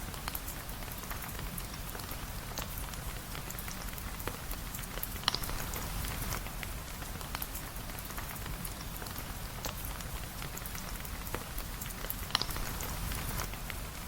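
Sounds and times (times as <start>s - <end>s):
sharp ticks of raindrops: 0.0s - 14.0s
steady rain hiss: 0.0s - 14.0s.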